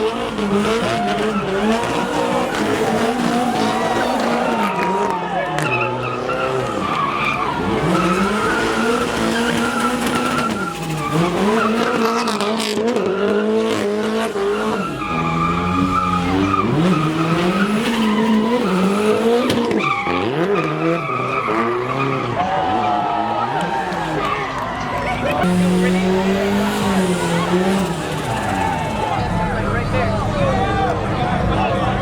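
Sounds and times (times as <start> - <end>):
car engine revving: 0.0 - 32.0
tires skidding and squealing: 0.0 - 32.0.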